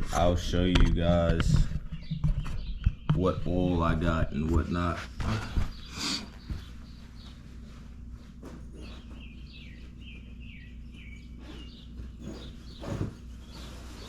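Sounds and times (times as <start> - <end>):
songbird chirping: 0.1 - 14.0.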